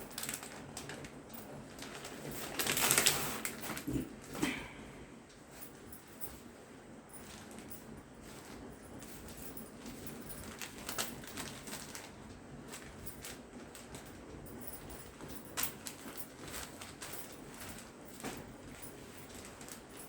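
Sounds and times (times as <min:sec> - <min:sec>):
fabric and packaging rustling: 0:00.0 - 0:04.6, 0:07.1 - 0:20.0.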